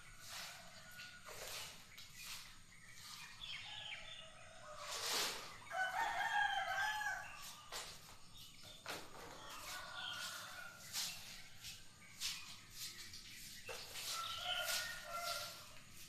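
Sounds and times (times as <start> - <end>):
recurring background noise: 0.0 - 16.0.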